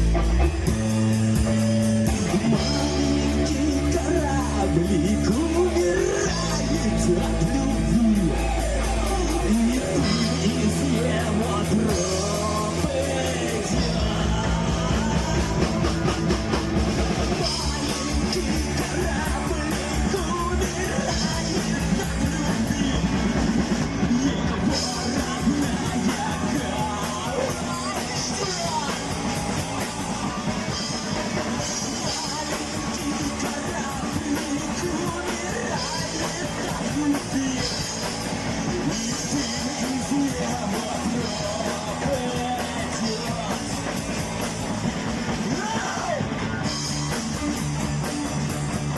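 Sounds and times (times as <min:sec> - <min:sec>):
driving drum kit: 0:00.0 - 0:48.9
rock band instrumental: 0:00.0 - 0:48.9.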